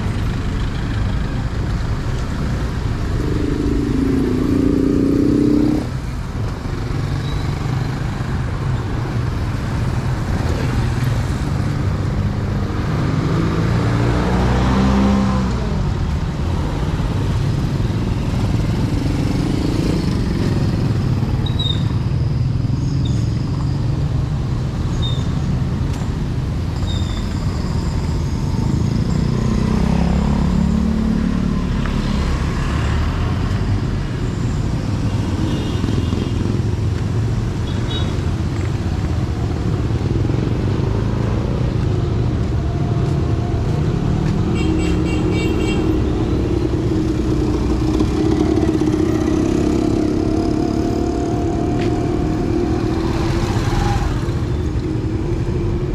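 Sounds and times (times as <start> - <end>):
car and motorcycle engines passing: 0.0 - 55.9.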